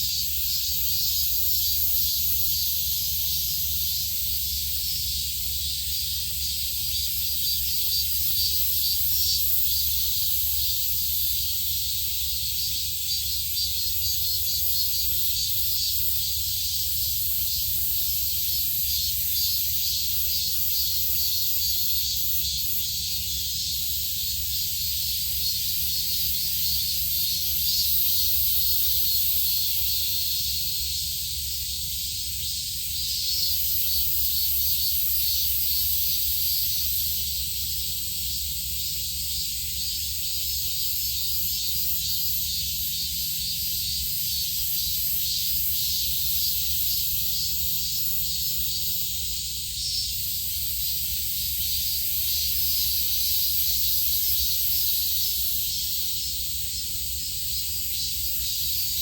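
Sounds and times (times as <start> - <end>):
constant low hum: 0.0 - 59.0
high-pitched insect chorus: 0.0 - 59.0.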